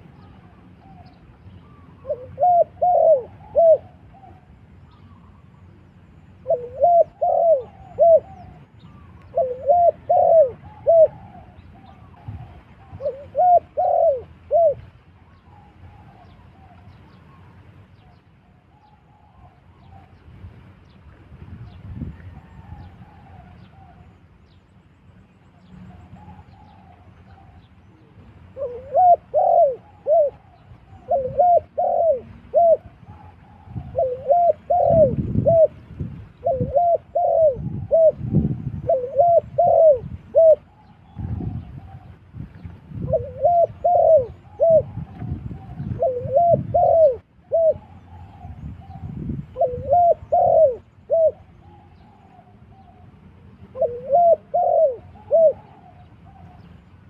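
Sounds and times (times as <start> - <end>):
dove cooing: 0.0 - 5.6, 6.4 - 17.4, 22.1 - 24.1, 25.9 - 35.8, 36.4 - 42.3, 42.9 - 56.7.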